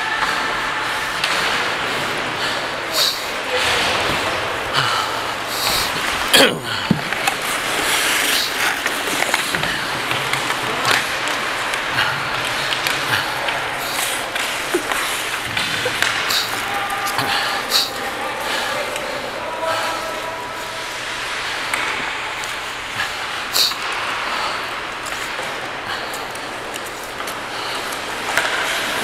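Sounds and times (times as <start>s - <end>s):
ice skates scraping on ice: 0.2s - 29.0s.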